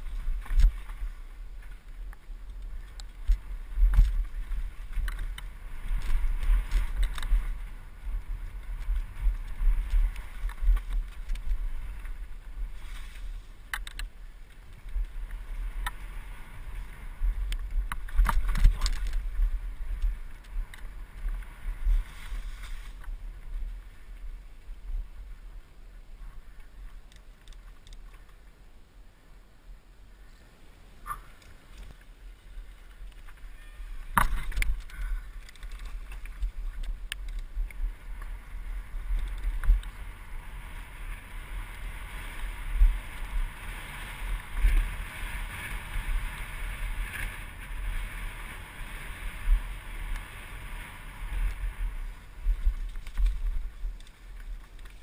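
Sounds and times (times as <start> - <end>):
bike rattling: 0.0 - 25.4, 31.0 - 55.0
wind rumbling on microphone: 0.0 - 55.0.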